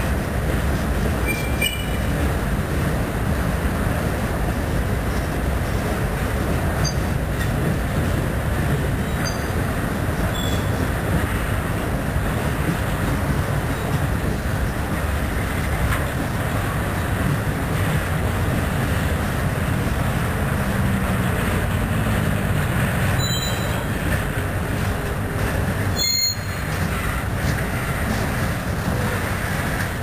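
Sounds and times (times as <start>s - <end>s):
train wheels rumbling and rattling: 0.0s - 30.0s.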